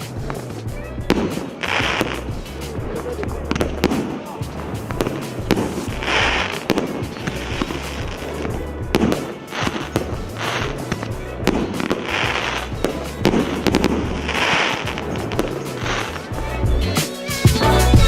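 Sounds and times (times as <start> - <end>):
firework cracks: 0.0 - 17.3
firework crackle and fizz: 0.0 - 17.6
background music: 0.0 - 18.0.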